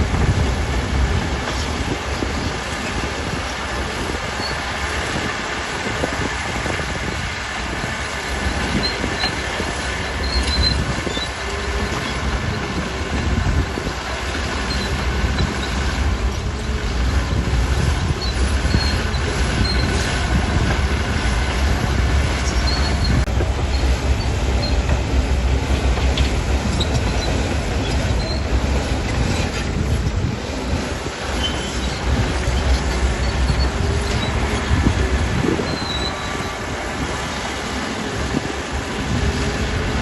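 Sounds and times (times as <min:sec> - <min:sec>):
bulldozer engine rumble: 0:00.0 - 0:40.0
steel tracks squeaking: 0:00.0 - 0:40.0.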